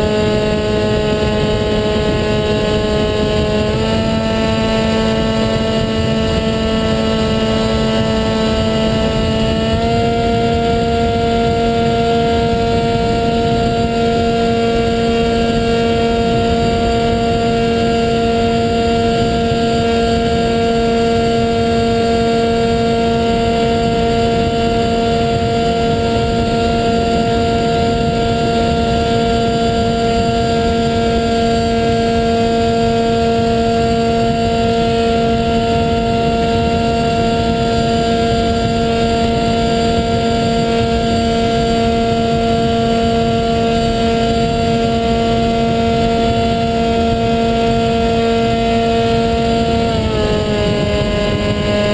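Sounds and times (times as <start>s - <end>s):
model plane motor droning whine: 0.0s - 51.9s
wind rush: 0.0s - 51.9s.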